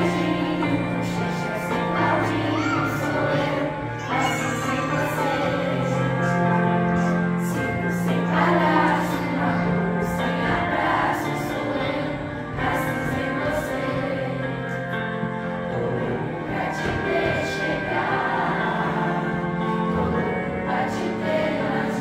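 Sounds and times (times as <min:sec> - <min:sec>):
youth choir singing: 0:00.0 - 0:22.0.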